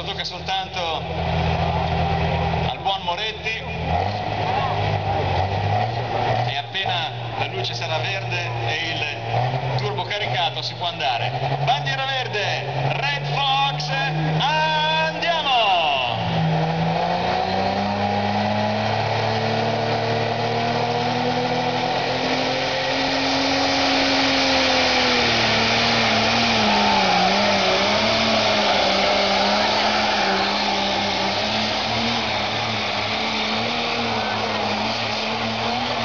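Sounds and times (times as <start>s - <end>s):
tractor engine running flat out: 0.0s - 36.0s.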